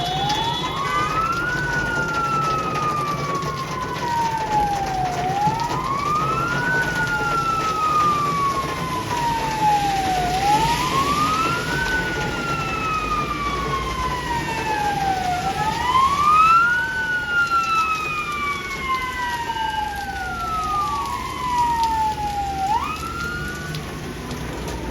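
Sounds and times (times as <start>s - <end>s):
fire engine sirens wailing: 0.0s - 24.9s.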